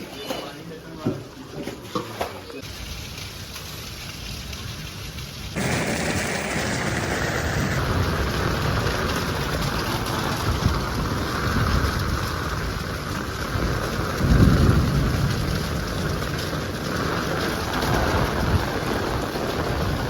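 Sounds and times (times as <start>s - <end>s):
heavy rain falling: 2.7s - 20.0s.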